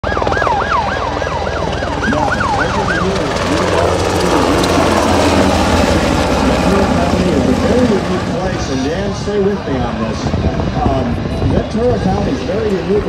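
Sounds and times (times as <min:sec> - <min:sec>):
emergency siren yelp and wail: 0:00.0 - 0:13.0
helicopter rotor beating: 0:00.0 - 0:13.0.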